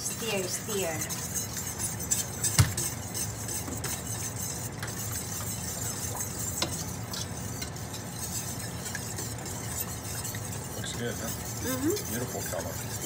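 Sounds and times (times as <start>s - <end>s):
steady low hum: 0.0s - 13.0s
whisk clinking against pot: 0.0s - 13.0s
whisk stirring in a pot: 0.0s - 13.0s.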